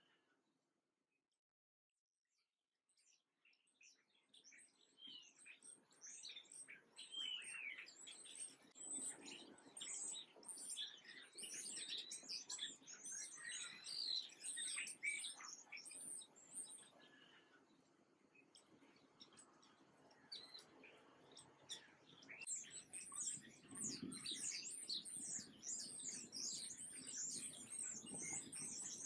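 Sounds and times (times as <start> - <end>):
small birds chirping: 2.9 - 29.0.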